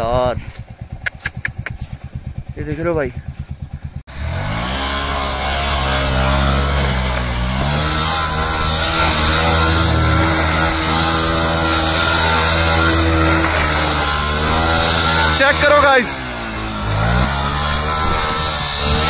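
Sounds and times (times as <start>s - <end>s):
vehicle engine running: 0.4s - 19.0s.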